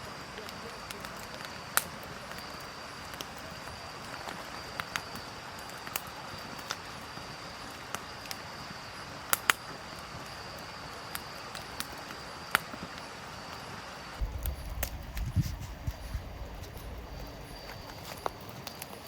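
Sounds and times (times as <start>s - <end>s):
high insect drone: 0.0s - 19.0s
wood fire crackling: 0.0s - 19.0s.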